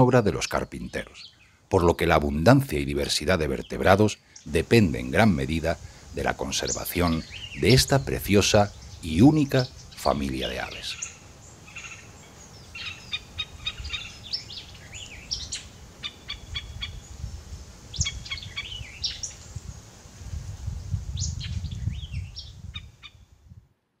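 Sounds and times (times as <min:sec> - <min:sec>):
birds chirping and calling: 0:00.0 - 0:19.7, 0:21.1 - 0:23.3.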